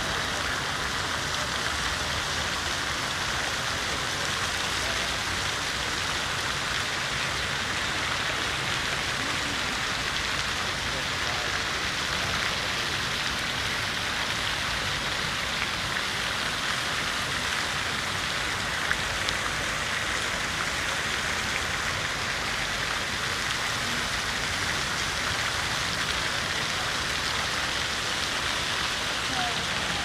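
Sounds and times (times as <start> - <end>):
fountain water splashing: 0.0 - 30.0.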